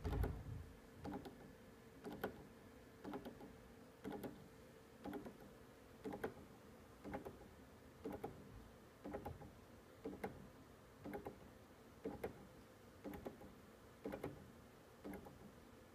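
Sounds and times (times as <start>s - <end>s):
clock motor ticking clicks: 0.0s - 0.4s, 1.0s - 15.6s.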